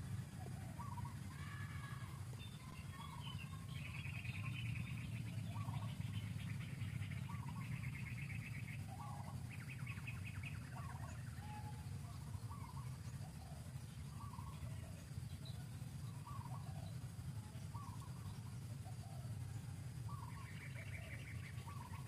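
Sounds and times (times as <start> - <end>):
birds chirping: 0.0 - 22.0
rapid pulsing bird trill: 0.0 - 22.0
steady low rumble: 0.0 - 22.0.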